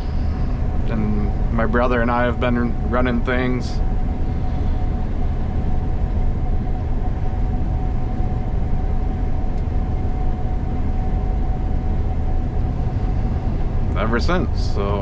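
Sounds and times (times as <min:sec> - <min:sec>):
combine harvester rumbling: 0:00.0 - 0:15.0.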